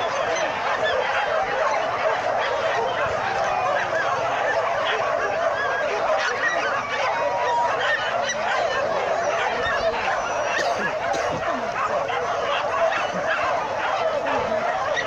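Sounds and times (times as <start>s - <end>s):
dogs barking yelping and whining: 0.0s - 15.0s.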